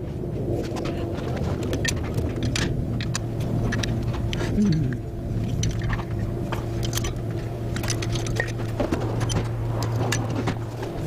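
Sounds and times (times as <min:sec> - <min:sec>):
steady low hum: 0:00.0 - 0:11.0
tools clicking on metal: 0:01.6 - 0:10.6.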